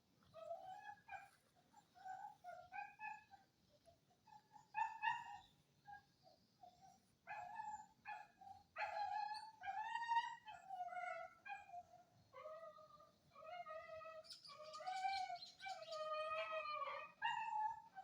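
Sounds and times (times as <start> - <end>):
dog whimpering and yelping: 0.4 - 3.4, 4.3 - 6.0, 6.6 - 18.0.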